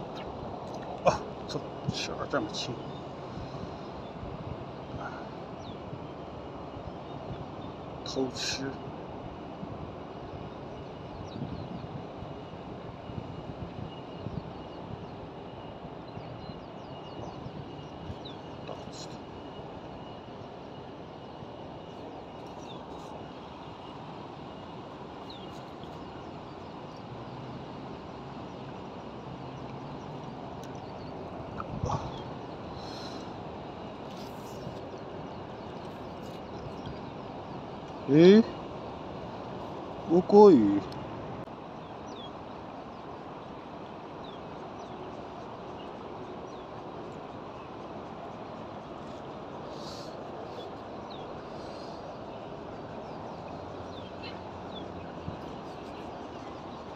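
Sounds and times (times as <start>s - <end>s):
distant traffic: 0.0s - 56.9s.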